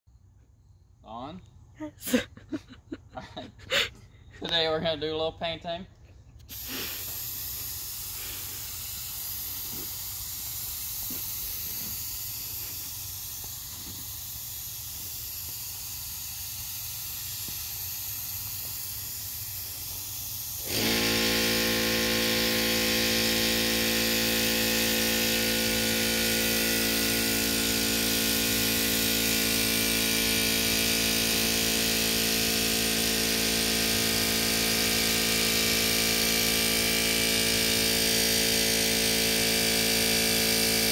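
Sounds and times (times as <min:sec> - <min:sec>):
air compressor humming: 0:03.4 - 0:40.9
spray gun hissing: 0:06.5 - 0:40.9.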